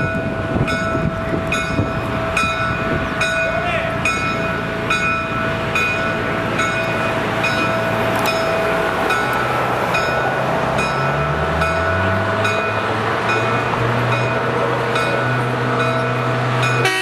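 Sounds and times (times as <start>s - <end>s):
engine hum: 0.0s - 17.0s
railway warning bell ringing: 0.0s - 17.0s.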